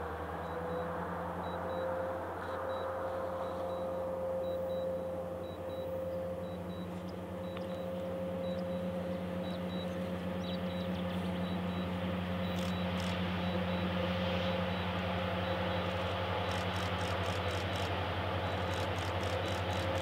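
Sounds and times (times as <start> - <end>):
steady higher tone: 0.0 - 16.4
distant diesel locomotive drone: 0.0 - 20.0.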